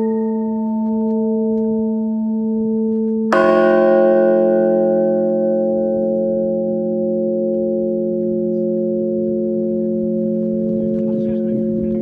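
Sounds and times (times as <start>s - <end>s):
bronze bell struck with mallet: 0.0s - 12.0s.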